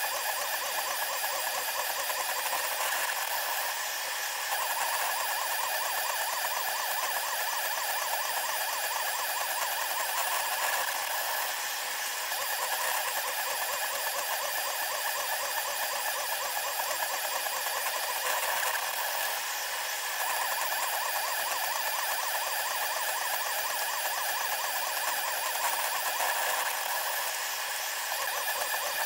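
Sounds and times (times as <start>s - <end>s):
stepper motors whining: 0.0s - 29.0s.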